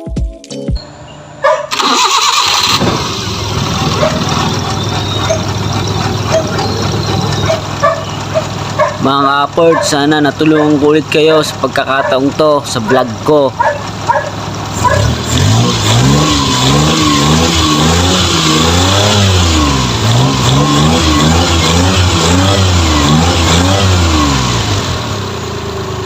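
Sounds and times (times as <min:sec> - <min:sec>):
car engine revving: 0:01.7 - 0:26.0.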